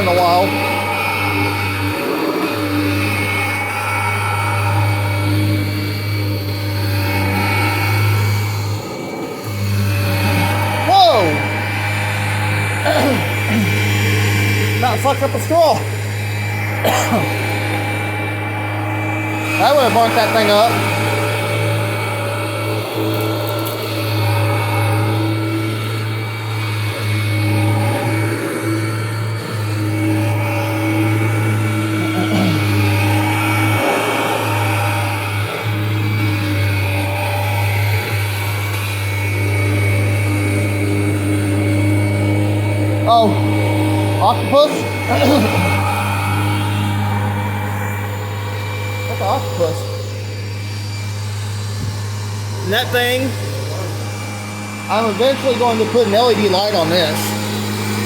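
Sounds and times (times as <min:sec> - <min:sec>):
vacuum cleaner motor humming: 0:00.0 - 0:58.0.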